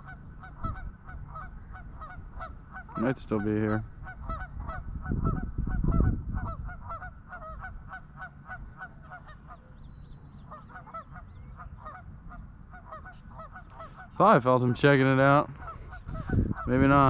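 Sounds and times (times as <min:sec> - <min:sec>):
birds honking: 0:00.0 - 0:17.0.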